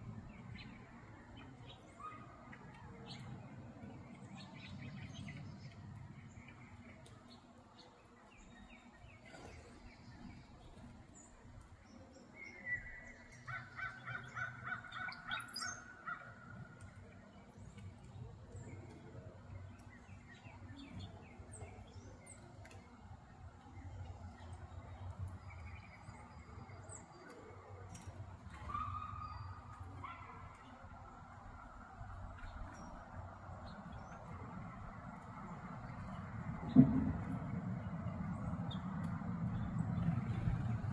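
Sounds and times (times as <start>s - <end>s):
wild birds chirping: 0.0s - 40.9s.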